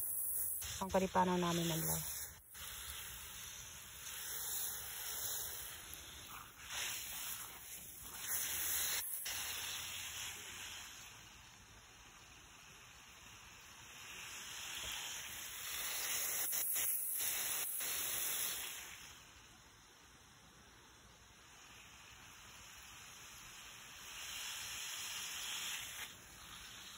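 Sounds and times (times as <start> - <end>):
hose nozzle spraying water: 0.0 - 19.4, 21.5 - 26.9.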